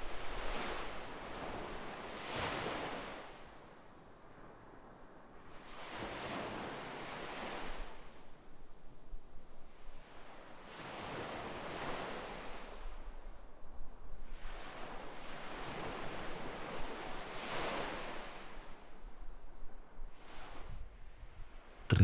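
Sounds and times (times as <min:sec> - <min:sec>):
ocean waves washing ashore: 0:00.0 - 0:22.0.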